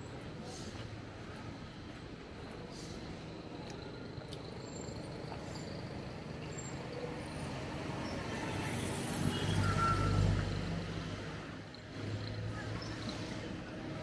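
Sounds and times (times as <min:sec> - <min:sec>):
city background noise: 0:00.0 - 0:14.0.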